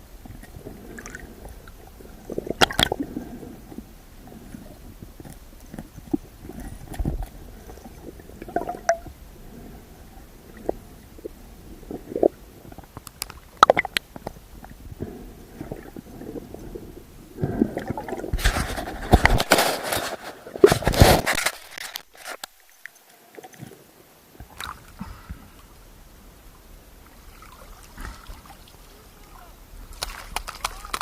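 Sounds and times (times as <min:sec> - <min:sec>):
water sloshing and splashing: 0:00.2 - 0:23.8, 0:24.4 - 0:25.3, 0:27.0 - 0:31.0.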